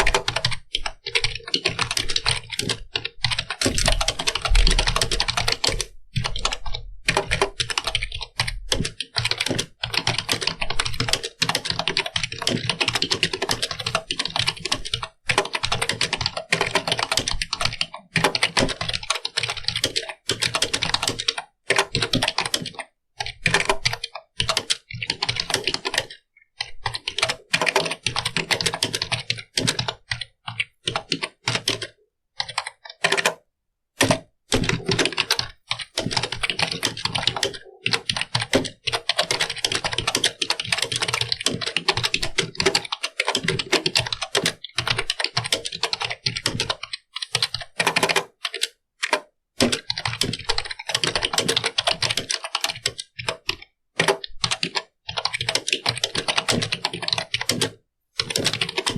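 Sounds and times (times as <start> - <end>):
computer keyboard typing: 0.0 - 58.9.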